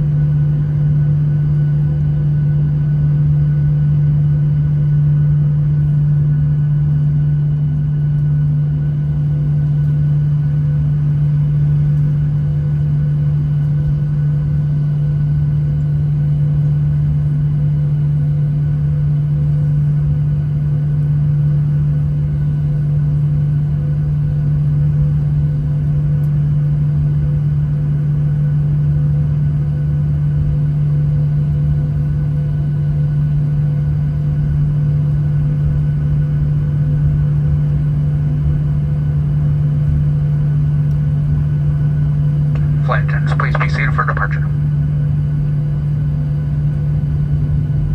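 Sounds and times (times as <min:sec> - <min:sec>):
airplane cabin engine hum: 0:00.0 - 0:47.9.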